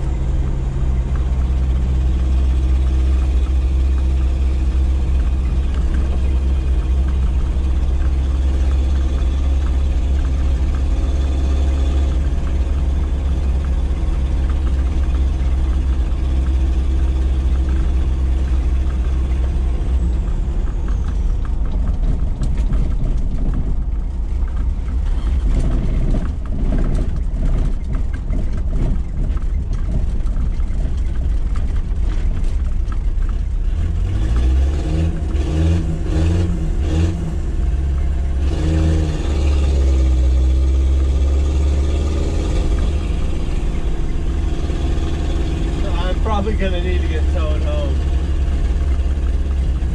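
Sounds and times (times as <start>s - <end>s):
vehicle body clattering and knocking: 0.0s - 34.6s, 40.3s - 49.9s
diesel engine drone in cabin: 0.0s - 49.9s.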